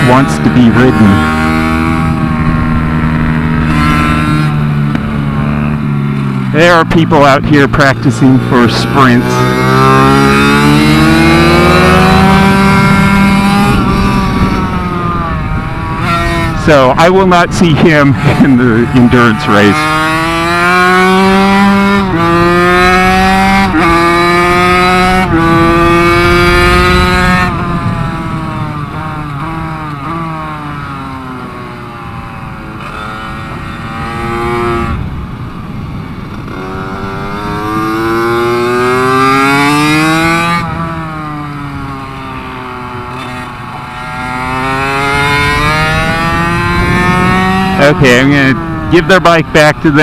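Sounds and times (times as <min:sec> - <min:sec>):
two-stroke engine revving: 0:00.0 - 0:35.2, 0:36.2 - 0:50.0.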